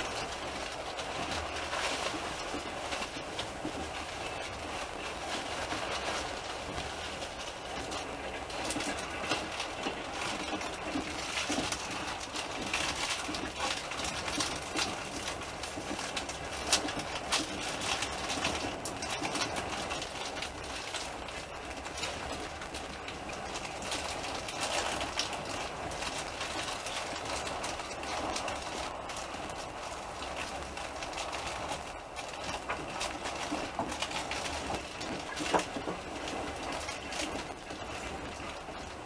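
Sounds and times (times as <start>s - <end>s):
train carriage rumble and rattle: 0.0s - 39.0s
wheels clicking over rails: 0.0s - 39.0s.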